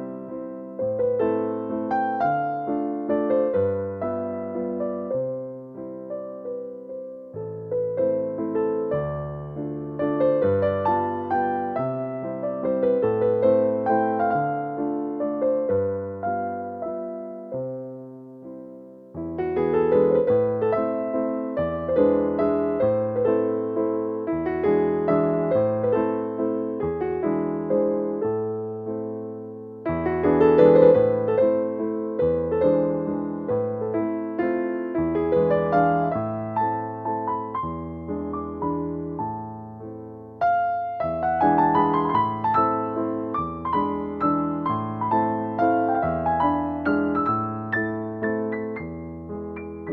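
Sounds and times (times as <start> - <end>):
slow piano melody: 0.0 - 49.9.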